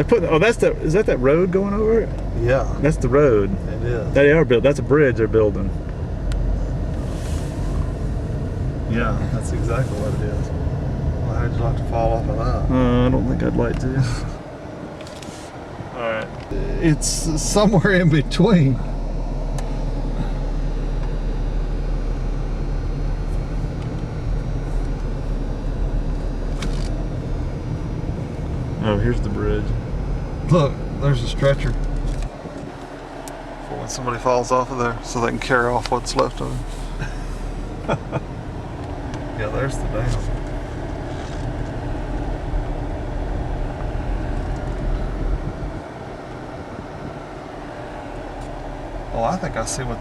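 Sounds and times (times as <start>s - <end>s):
car engine and road drone: 0.0s - 50.0s.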